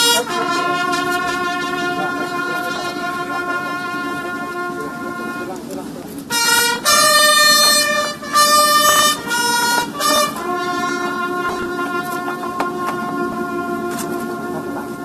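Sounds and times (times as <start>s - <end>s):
bugle call: 0.0s - 15.0s.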